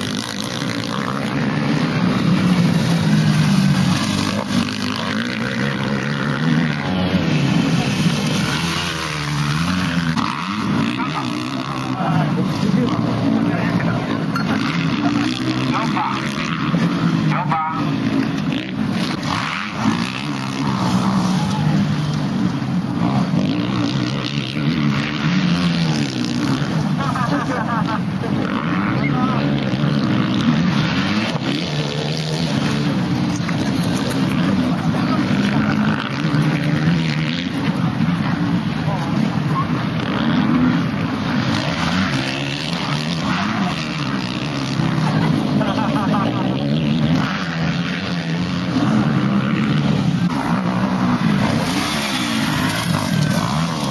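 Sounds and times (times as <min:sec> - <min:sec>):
motocross bike engines revving: 0:00.0 - 0:53.9.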